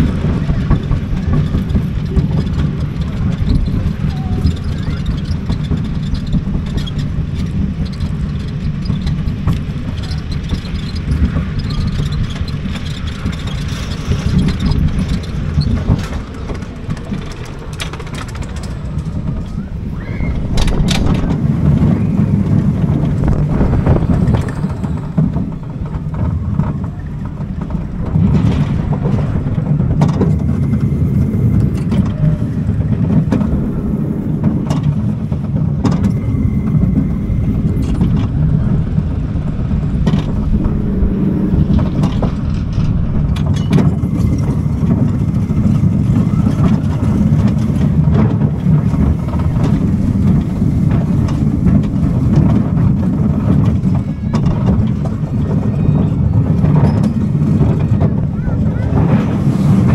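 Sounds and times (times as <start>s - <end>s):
roller coaster rumbling and clattering: 0.0s - 59.9s.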